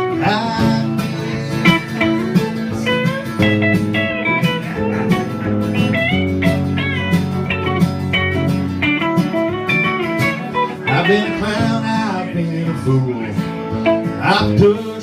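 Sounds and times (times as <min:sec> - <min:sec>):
country guitar chords: 0:00.0 - 0:15.0
picked guitar lead line: 0:00.0 - 0:15.0.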